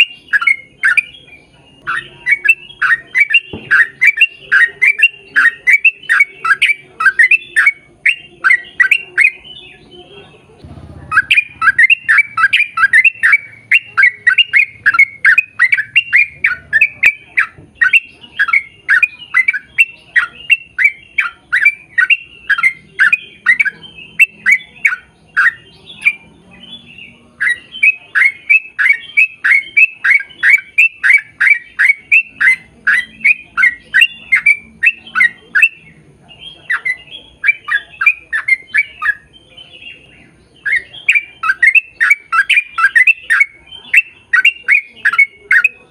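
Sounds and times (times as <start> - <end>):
bird calling downward notes: 0.0 - 45.9.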